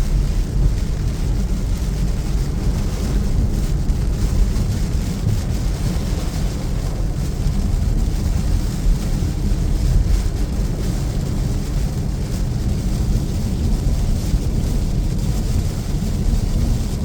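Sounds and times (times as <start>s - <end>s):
car driving on wet road: 0.0s - 17.0s
heavy rain: 0.0s - 17.0s.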